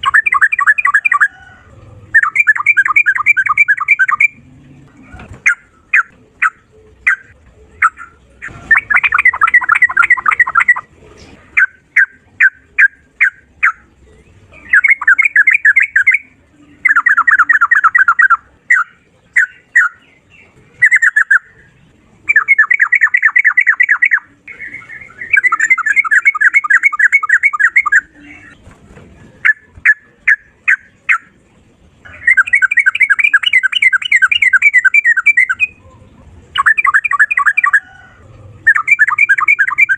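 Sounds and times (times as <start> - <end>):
bulbul singing with rattling trills: 0.0 - 28.7, 29.3 - 39.9.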